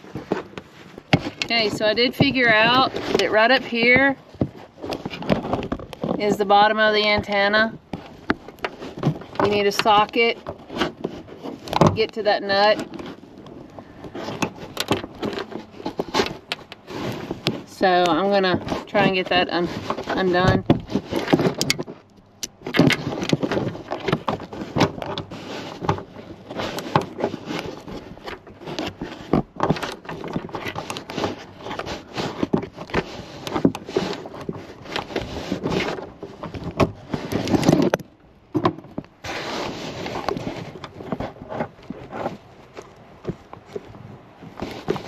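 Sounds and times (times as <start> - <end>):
hands scraping and rustling: 0.0 - 45.0.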